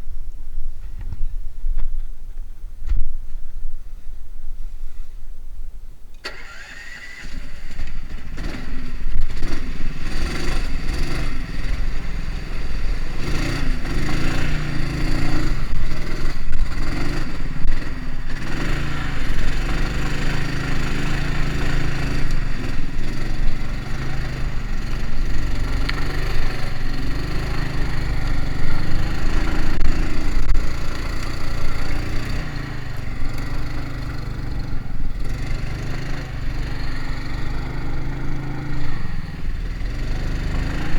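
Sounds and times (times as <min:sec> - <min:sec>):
vehicle engine running: 0:06.2 - 0:40.9.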